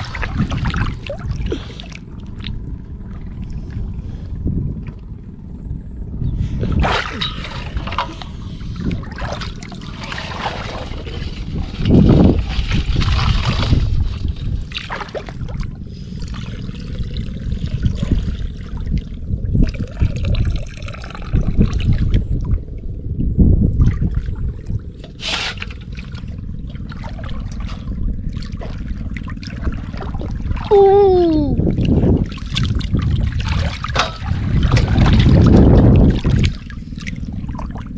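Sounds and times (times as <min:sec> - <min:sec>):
muddy water sloshing and splashing: 0:00.0 - 0:05.4, 0:06.3 - 0:37.9.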